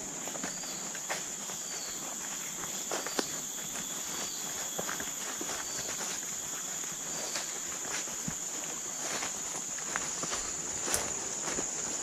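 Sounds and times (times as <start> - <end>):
footsteps crunching through leaf litter: 0.0 - 12.0
insects droning: 0.0 - 12.0.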